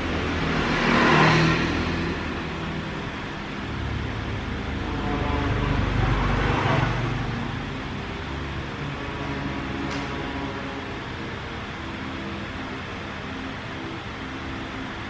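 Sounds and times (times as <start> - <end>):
road traffic engine rumble: 0.0 - 15.0.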